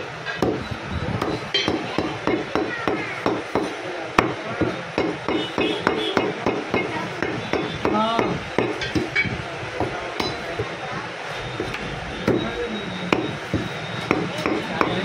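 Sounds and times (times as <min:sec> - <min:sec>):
cleaver chopping meat: 0:00.4 - 0:10.8, 0:13.1 - 0:15.0.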